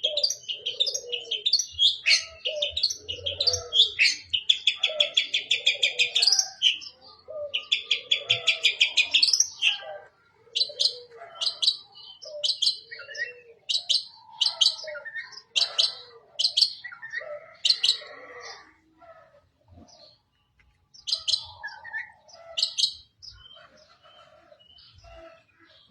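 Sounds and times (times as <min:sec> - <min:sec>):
bird singing varied song: 0:00.0 - 0:25.9.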